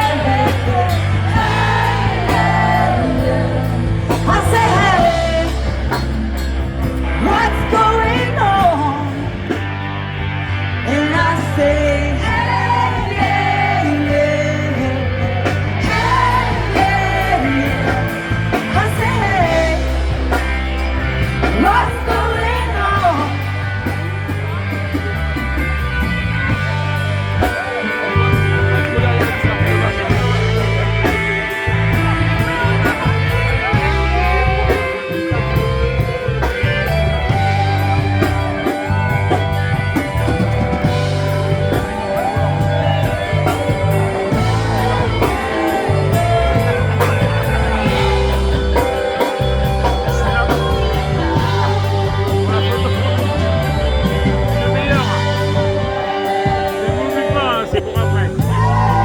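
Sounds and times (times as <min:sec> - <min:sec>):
bass line: 0:00.0 - 0:59.0
electric guitar: 0:00.0 - 0:59.0
live rock band playing: 0:00.0 - 0:59.0.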